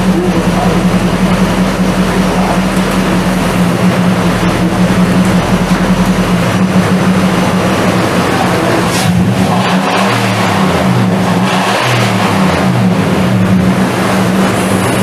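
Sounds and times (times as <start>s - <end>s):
engine humming low: 0.0s - 15.0s.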